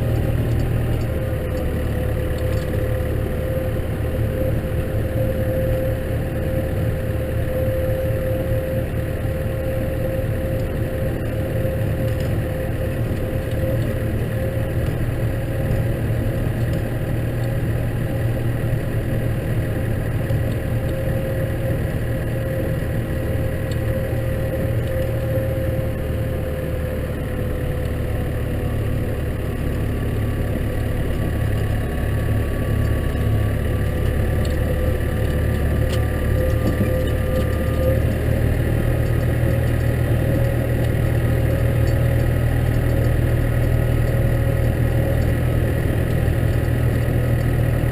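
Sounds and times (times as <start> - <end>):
tractor engine droning: 0.0 - 47.9.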